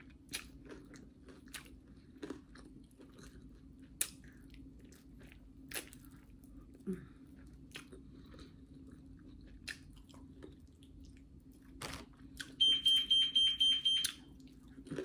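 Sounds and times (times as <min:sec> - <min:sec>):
person chewing food: 0:00.0 - 0:12.6, 0:14.0 - 0:15.0.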